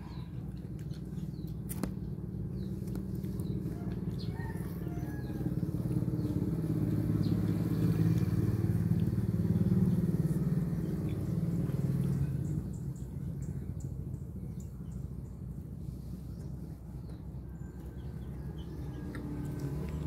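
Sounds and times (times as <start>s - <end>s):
passing vehicle engine hum: 0.0s - 20.0s.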